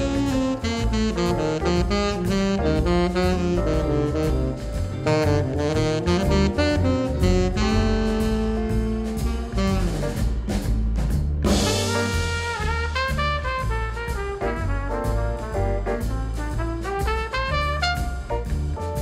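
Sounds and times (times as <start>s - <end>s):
upbeat jazz with brass and drums: 0.0s - 19.0s.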